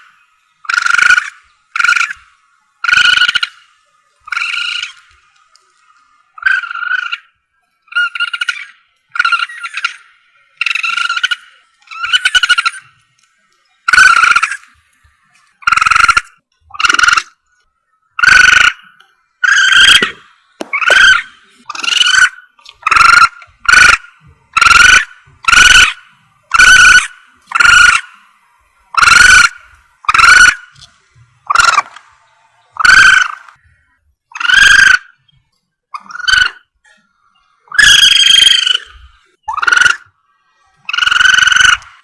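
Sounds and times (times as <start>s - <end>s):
high-pitched civet calls: 0.6s - 5.2s, 6.3s - 13.0s, 13.8s - 14.8s, 15.6s - 17.4s, 18.2s - 28.2s, 28.9s - 32.0s, 32.7s - 33.6s, 34.3s - 35.3s, 35.9s - 36.8s, 37.6s - 42.0s.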